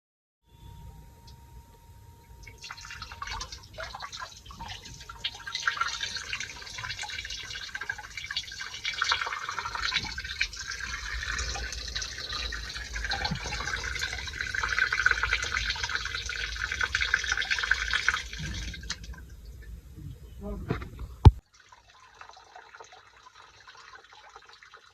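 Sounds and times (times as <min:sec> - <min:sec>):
water dripping and trickling: 0:02.4 - 0:20.1, 0:21.3 - 0:24.9.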